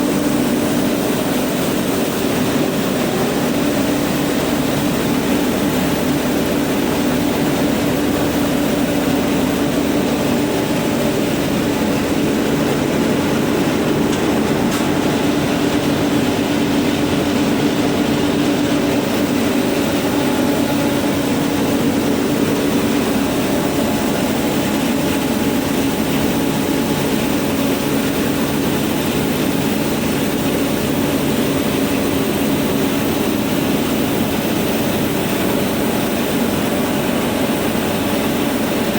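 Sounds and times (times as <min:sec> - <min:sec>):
rice milling machine drone: 0:00.0 - 0:38.9.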